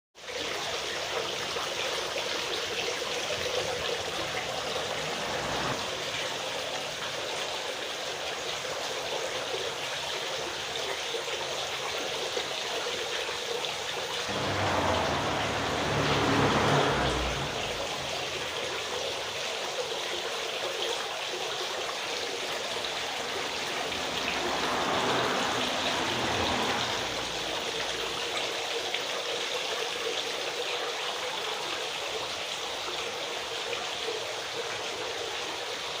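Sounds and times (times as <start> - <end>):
fountain water trickling: 0.2 - 36.0.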